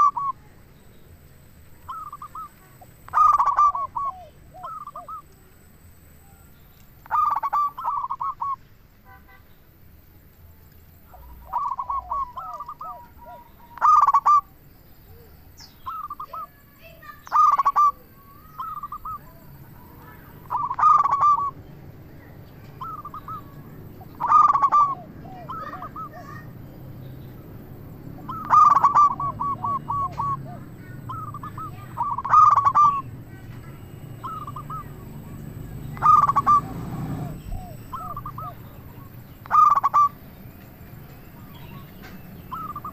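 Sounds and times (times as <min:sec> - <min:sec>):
doves cooing: 0:00.0 - 0:00.4, 0:01.7 - 0:05.4, 0:07.0 - 0:08.6, 0:11.1 - 0:42.9.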